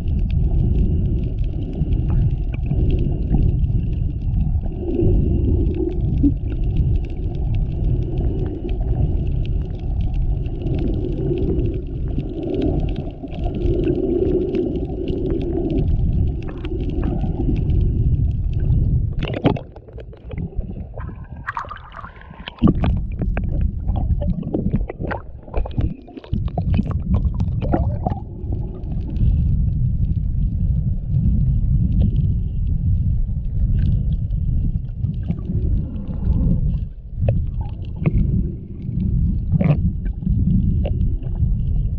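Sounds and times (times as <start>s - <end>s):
muffled underwater water gurgling: 0.0s - 41.9s.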